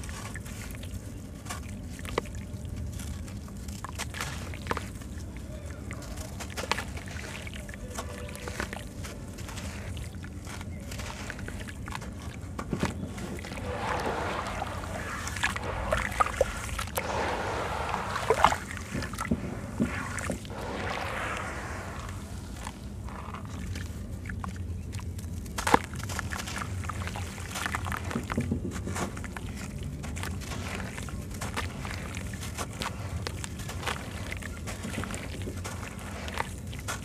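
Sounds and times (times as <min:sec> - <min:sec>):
hands crumbling wet sand-cement: 0:00.0 - 0:37.0
water sloshing: 0:00.0 - 0:37.0.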